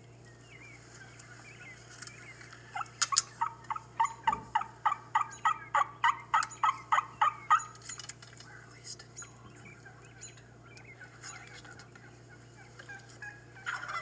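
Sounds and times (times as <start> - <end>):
wild turkey yelping: 0.4 - 7.9, 8.5 - 14.0.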